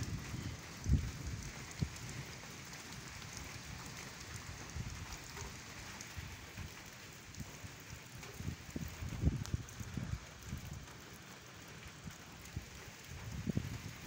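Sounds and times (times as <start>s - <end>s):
wind buffeting microphone: 0.0s - 11.0s, 11.9s - 14.0s
light rain falling: 0.0s - 14.0s.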